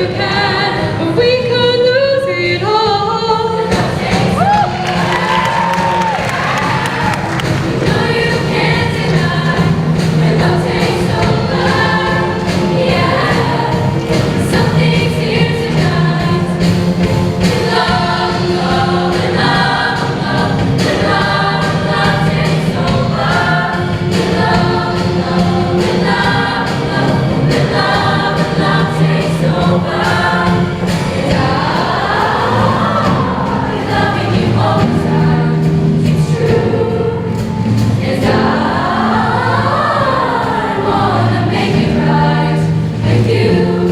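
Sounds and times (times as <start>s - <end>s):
show choir singing in parts: 0.0s - 43.9s.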